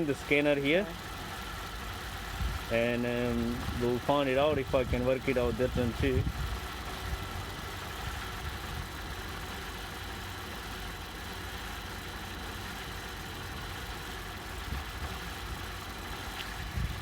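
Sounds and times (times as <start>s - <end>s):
car engine idling rough with misfire: 0.0s - 17.0s.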